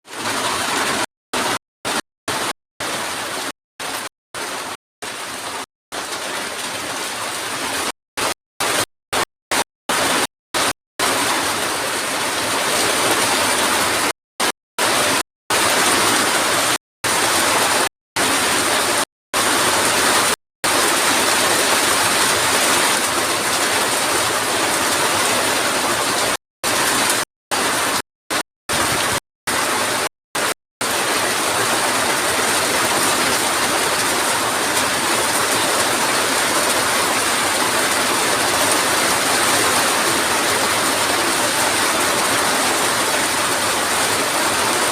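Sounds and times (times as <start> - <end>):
heavy rain pouring: 0.0 - 8.9, 9.9 - 14.2, 14.8 - 44.9.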